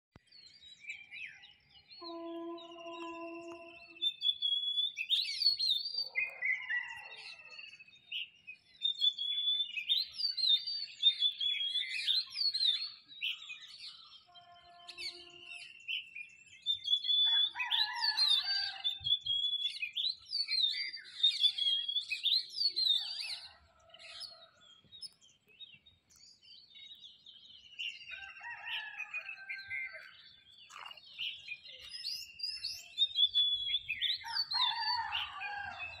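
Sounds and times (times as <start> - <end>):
birds chirping and trilling: 0.2 - 36.0.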